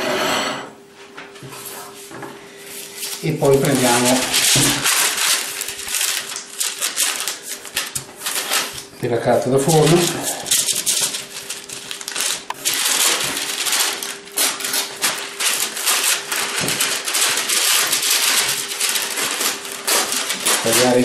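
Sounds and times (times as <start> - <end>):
parchment paper crinkling: 2.8 - 21.0.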